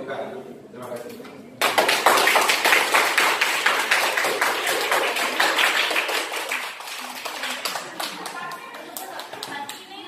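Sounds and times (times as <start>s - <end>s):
students applauding: 1.6s - 9.9s.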